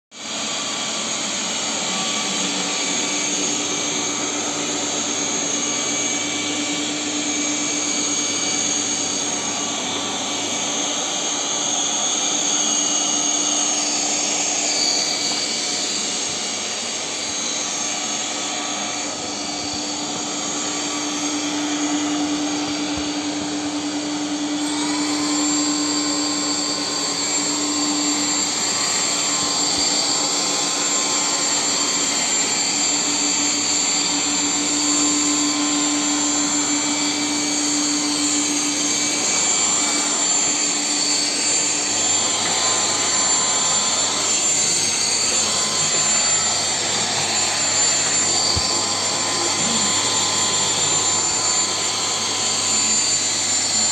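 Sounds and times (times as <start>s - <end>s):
vacuum motor whining: 0.2s - 53.9s.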